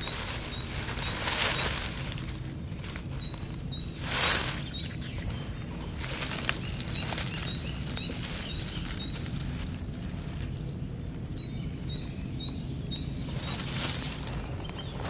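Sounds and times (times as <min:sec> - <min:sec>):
dry leaves rustling and crackling: 0:00.0 - 0:15.0
small bird chirping: 0:00.0 - 0:15.0.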